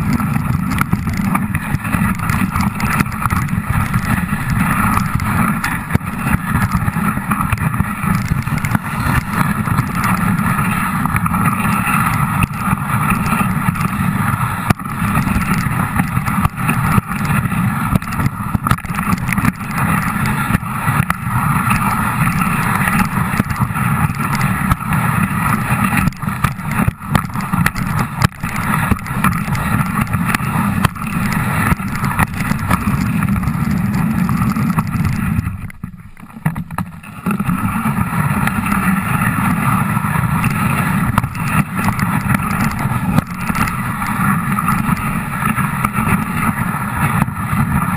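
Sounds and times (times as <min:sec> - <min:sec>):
sled knocking and rattling: 0:00.0 - 0:47.9
sled runners scraping on snow: 0:00.0 - 0:47.9.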